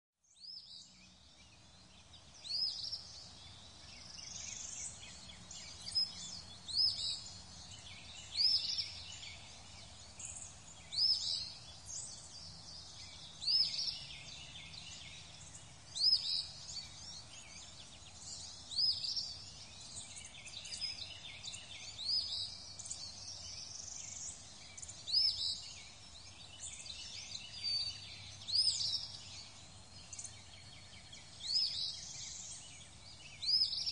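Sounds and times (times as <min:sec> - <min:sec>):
birds chirping: 0:00.3 - 0:33.9
steady background hiss: 0:00.4 - 0:33.9.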